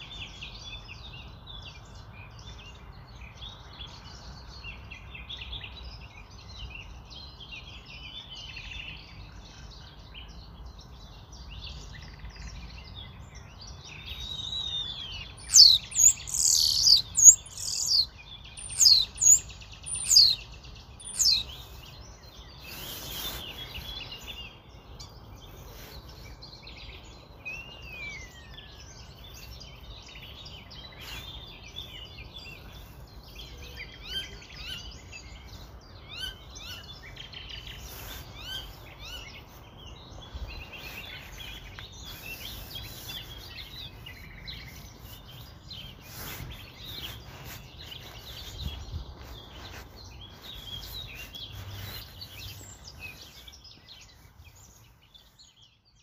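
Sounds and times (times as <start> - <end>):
small birds chirping in chorus: 0.0 - 56.0.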